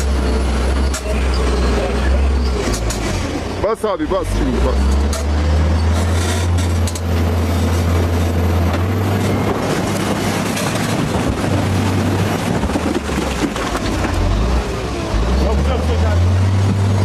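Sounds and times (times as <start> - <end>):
heavy machine engine drone: 0.0 - 17.0
rough grinding noise: 0.0 - 17.0.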